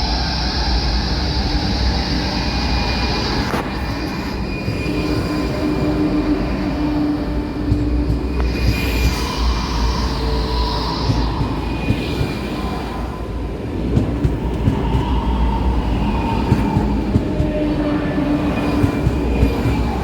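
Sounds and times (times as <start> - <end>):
rail vehicle rumbling: 0.0 - 20.0.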